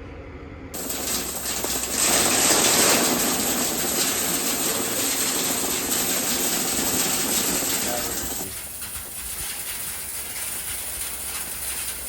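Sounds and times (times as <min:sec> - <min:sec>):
dense machinery noise: 0:00.8 - 0:12.0.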